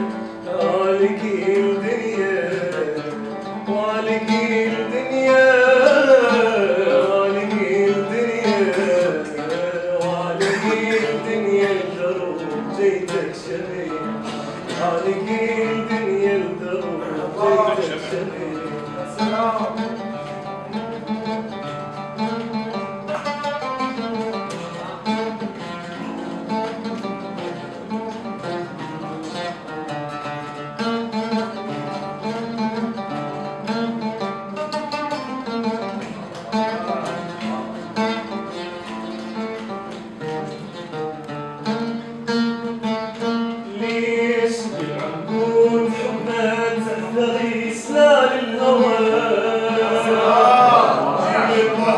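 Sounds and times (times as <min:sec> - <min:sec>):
plucked string instrument melody: 0:00.0 - 0:51.9.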